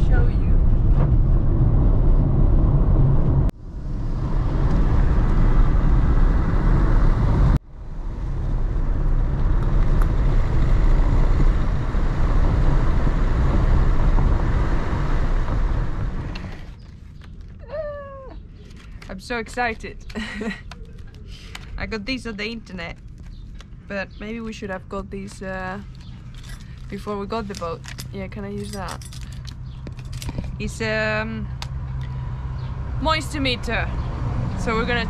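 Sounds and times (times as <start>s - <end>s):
road and wind noise in van: 0.0s - 35.0s.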